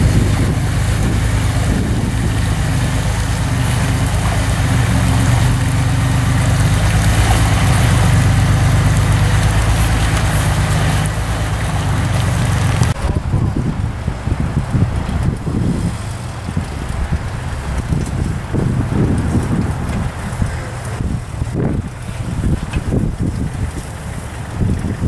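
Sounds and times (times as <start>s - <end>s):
pickup truck engine under load: 0.0s - 25.0s
tyres churning over rocks: 0.0s - 25.0s
water splashing around wheels: 0.0s - 25.0s
wind noise: 0.0s - 25.0s.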